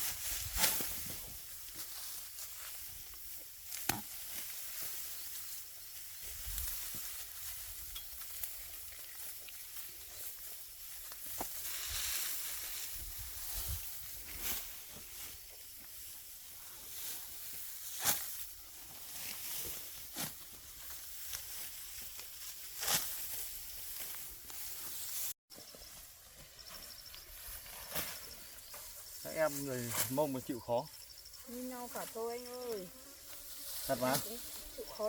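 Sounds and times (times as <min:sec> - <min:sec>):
dry rice plants rustling: 0:00.0 - 0:35.0.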